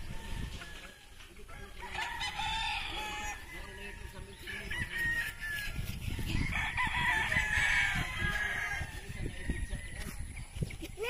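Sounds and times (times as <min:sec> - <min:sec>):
wind on microphone: 0:00.0 - 0:01.1, 0:01.8 - 0:11.0
rooster crowing: 0:00.0 - 0:10.0.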